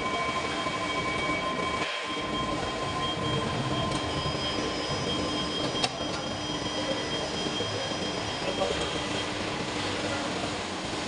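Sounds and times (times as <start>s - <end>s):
high-pitched machine whine: 0.0s - 11.0s
machinery hum and rumble: 0.0s - 11.0s.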